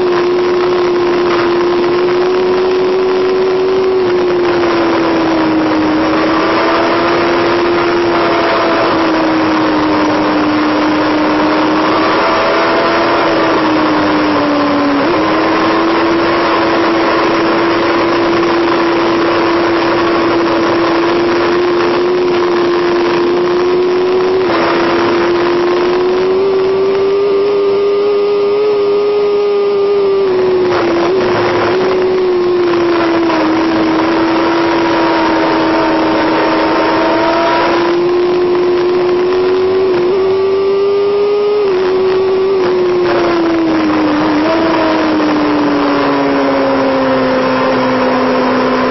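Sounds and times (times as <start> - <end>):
motorcycle engine running hard: 0.0 - 48.9
wind and road noise: 0.0 - 48.9.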